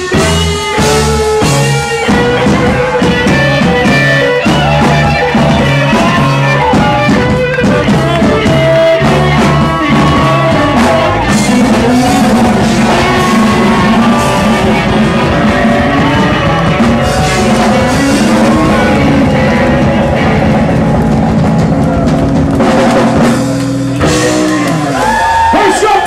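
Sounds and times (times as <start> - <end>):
person singing: 0.0 - 22.0
guitar: 0.0 - 26.0
rock band music: 0.0 - 26.0.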